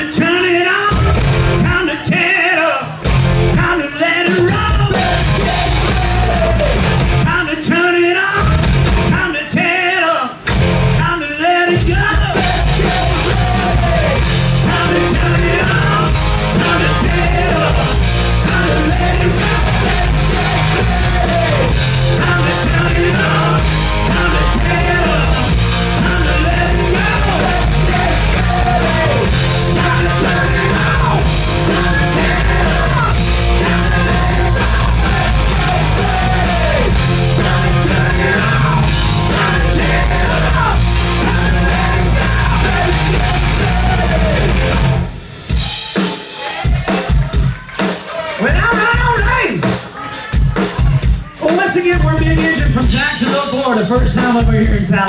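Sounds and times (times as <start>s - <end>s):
singer yelling: 0.0s - 10.4s, 11.0s - 44.7s, 46.1s - 55.0s
live rock band playing: 0.0s - 55.0s.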